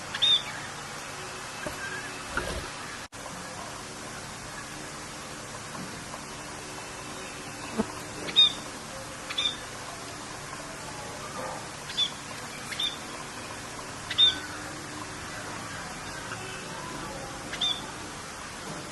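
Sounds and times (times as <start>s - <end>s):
birds chirping: 0.0s - 5.2s, 6.1s - 18.4s
rain hissing: 0.0s - 18.9s.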